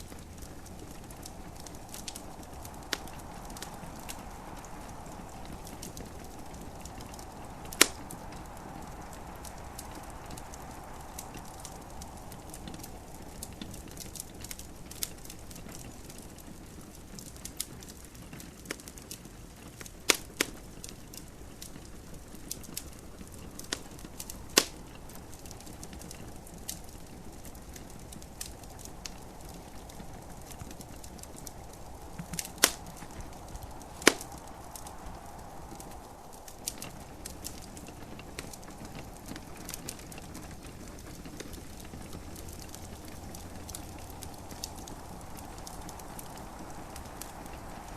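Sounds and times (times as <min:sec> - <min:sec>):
loud fire pops: 0:00.0 - 0:47.9
soft fire hiss: 0:00.0 - 0:47.9
wood fire crackling: 0:00.0 - 0:47.9.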